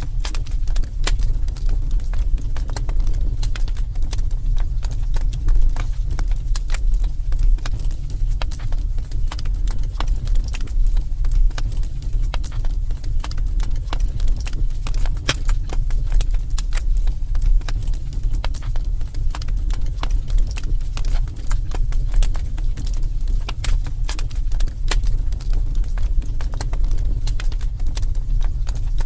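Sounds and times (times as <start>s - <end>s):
steady low rumble: 0.0s - 29.0s
wood fire crackling and popping: 0.0s - 29.0s.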